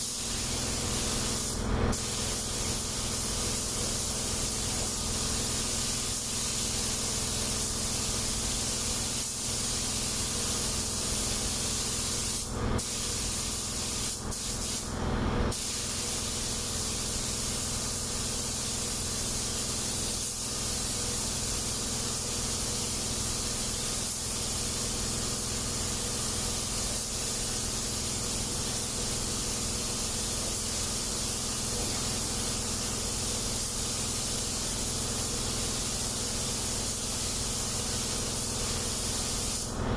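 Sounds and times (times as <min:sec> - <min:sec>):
paint spray gun hissing: 0:00.0 - 0:14.9, 0:15.5 - 0:39.8.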